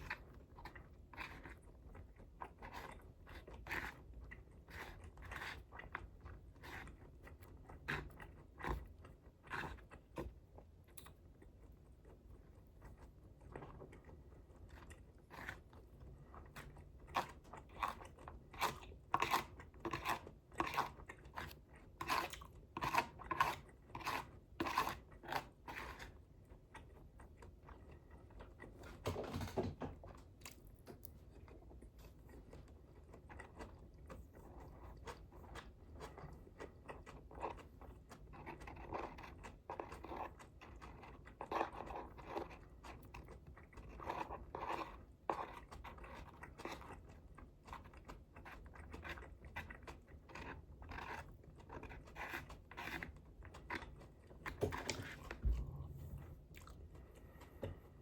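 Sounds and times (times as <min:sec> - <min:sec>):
person chewing and crunching food: 0:00.0 - 0:58.0.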